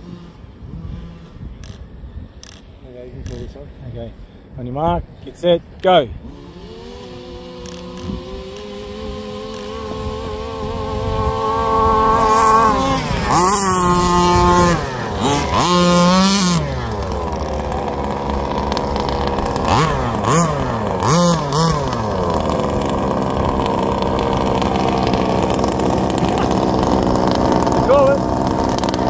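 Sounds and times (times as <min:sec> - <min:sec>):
rc buggy engines racing: 0:00.0 - 0:04.2, 0:04.9 - 0:29.0.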